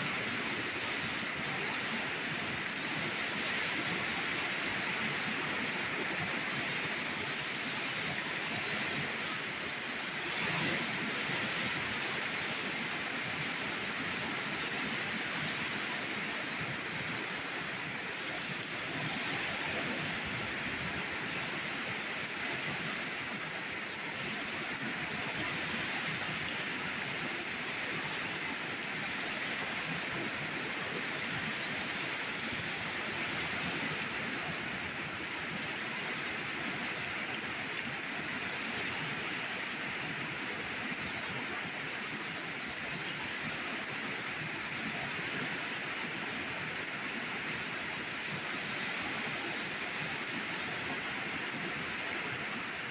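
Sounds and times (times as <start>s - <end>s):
torrential rain splashing: 0.0s - 52.9s.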